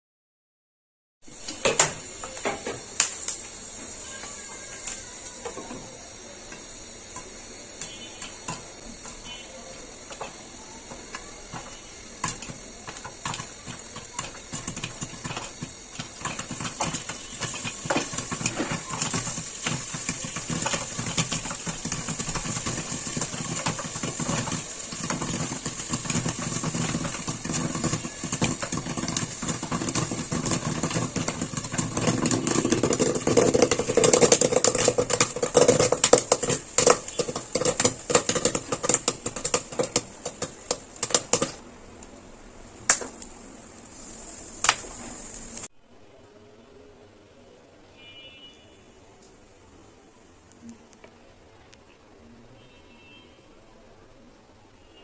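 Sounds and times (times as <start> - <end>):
kernels sizzling in hot oil: 1.2 - 45.7
popcorn popping: 1.3 - 45.7.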